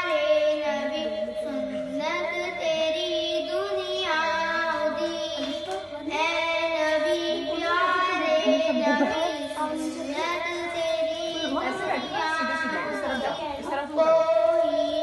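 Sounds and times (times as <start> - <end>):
girl singing devotional song: 0.0 - 15.0.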